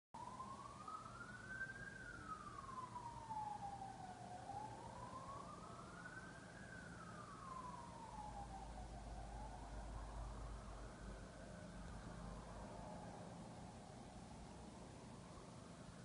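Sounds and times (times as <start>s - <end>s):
low steady hum: 0.2s - 16.0s
wailing siren: 0.2s - 16.0s.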